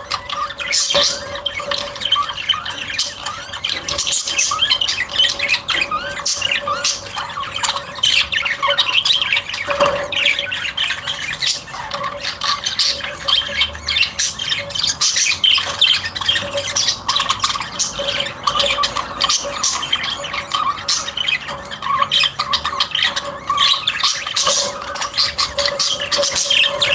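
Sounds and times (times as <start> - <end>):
birds squawking and chirping: 0.0 - 26.9.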